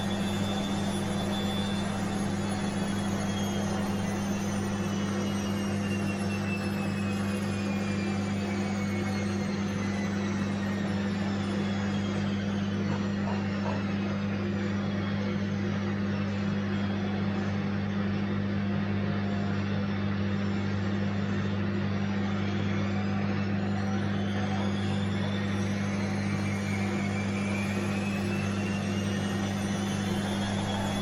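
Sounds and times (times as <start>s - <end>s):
washing machine motor whine: 0.0s - 31.0s
washing machine running: 0.0s - 31.0s.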